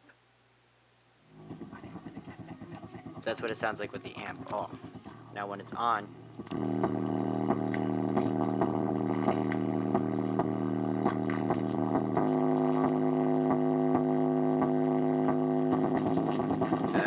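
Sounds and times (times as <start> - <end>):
bass-heavy song over speaker: 1.4 - 17.0.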